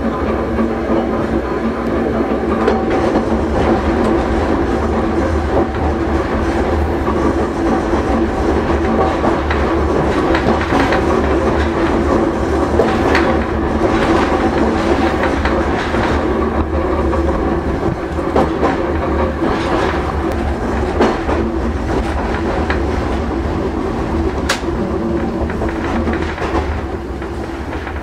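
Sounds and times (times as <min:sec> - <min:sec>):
tram gear and motor whine: 0:00.0 - 0:28.0
wheels clicking over rail joints: 0:00.0 - 0:28.0.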